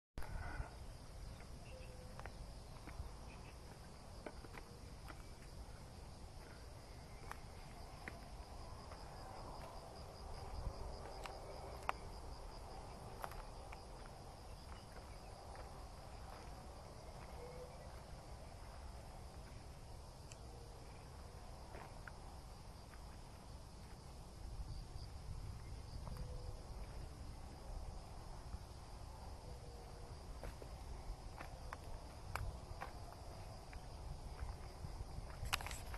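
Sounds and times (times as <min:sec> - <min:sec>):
insects chirring: 0:00.2 - 0:35.9.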